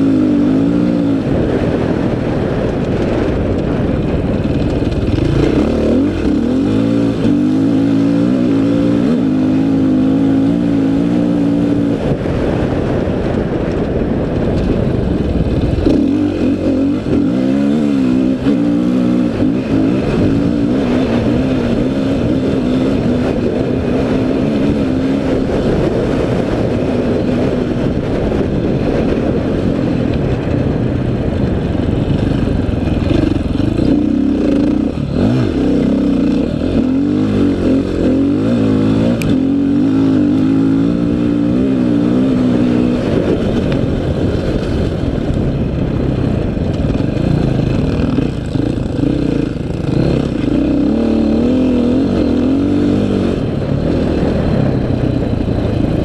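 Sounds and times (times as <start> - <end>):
dirt bike engine revving: 0.0 - 13.0, 15.2 - 30.4, 31.2 - 45.4, 46.2 - 56.0.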